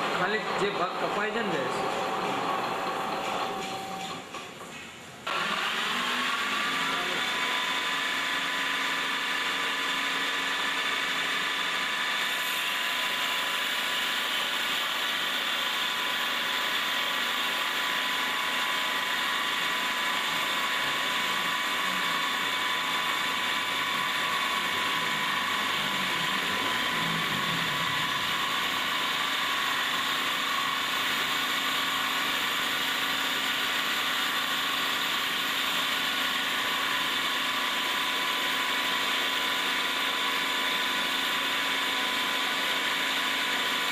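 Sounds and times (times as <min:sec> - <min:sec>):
lathe motor whine: 0:00.0 - 0:04.2, 0:05.3 - 0:43.9.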